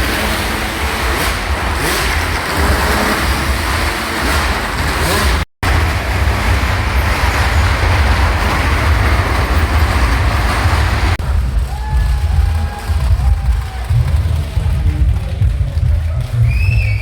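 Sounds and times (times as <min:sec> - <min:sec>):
motorcycle engines running hard: 0:00.0 - 0:16.4.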